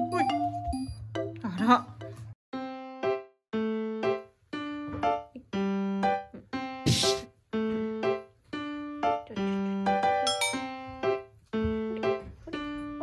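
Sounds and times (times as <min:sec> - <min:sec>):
keyboard melody of held notes: 0:00.0 - 0:06.8, 0:07.5 - 0:13.0.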